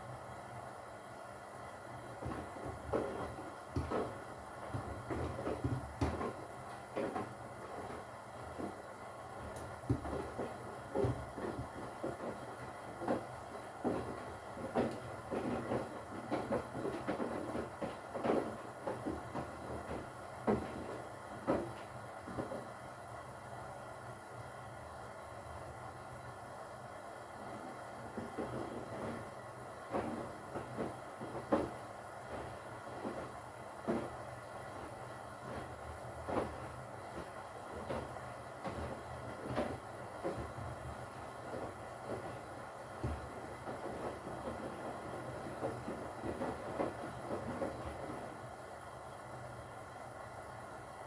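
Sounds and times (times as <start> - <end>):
laundry sloshing in washing machine: 0.0 - 23.2, 27.2 - 51.0
washing machine motor hum: 0.0 - 51.0
soft thumps: 2.2 - 22.8, 27.4 - 48.3.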